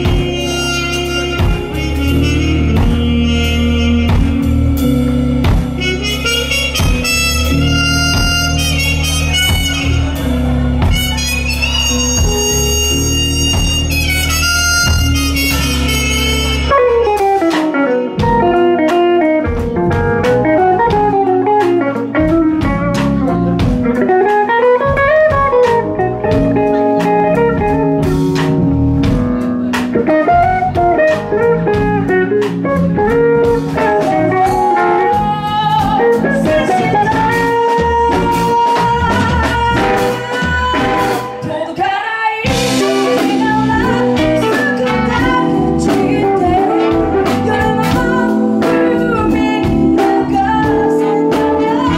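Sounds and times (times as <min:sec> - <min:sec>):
electric guitar lead lines: 0:00.0 - 0:41.8, 0:42.4 - 0:51.9
live blues band playing: 0:00.0 - 0:51.9.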